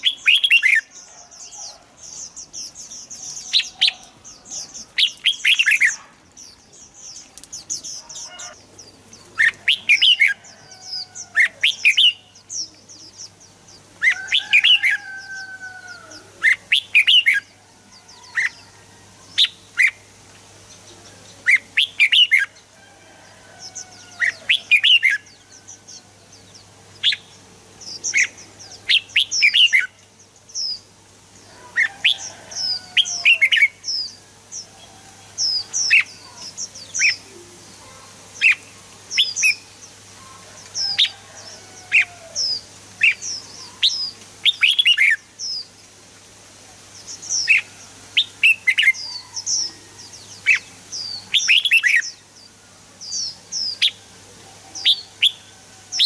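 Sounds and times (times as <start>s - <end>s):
bird singing bright chirps: 0.0s - 46.0s, 46.9s - 56.0s.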